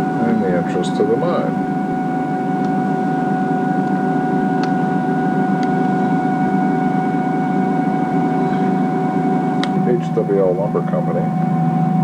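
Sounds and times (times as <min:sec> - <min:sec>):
electric motor hum and whine: 0:00.0 - 0:12.0.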